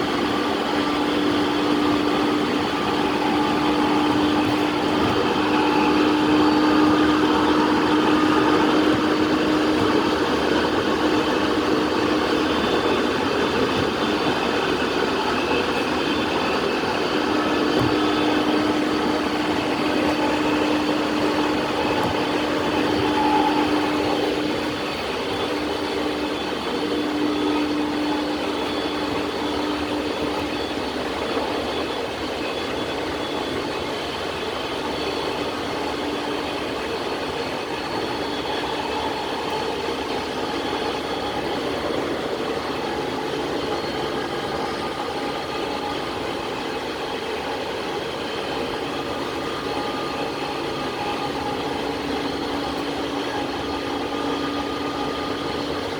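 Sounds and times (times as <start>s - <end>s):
train motor hum: 0.0s - 55.9s
train rolling noise: 0.0s - 55.9s.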